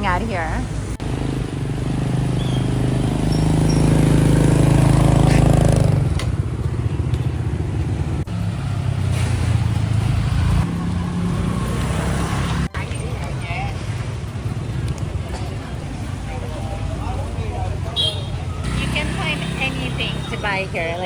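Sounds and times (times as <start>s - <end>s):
motorbike passing: 0.0s - 21.0s
traffic engines running: 0.0s - 21.0s.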